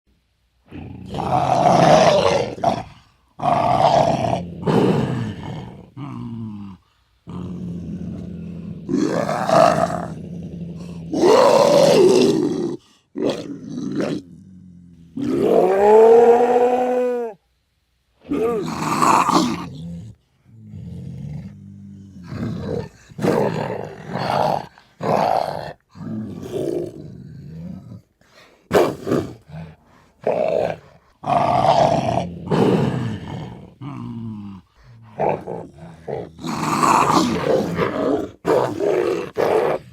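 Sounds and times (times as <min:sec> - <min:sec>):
quiet low growl: 0:00.6 - 0:17.5, 0:18.2 - 0:39.9
leopard growling and snarling: 0:00.7 - 0:17.0, 0:18.2 - 0:39.9.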